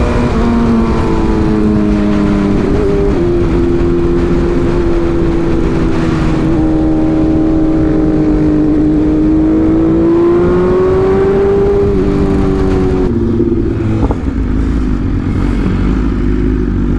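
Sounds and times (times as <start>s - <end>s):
low rush: 0.0s - 16.9s
motorcycle engine revving high: 0.0s - 16.9s.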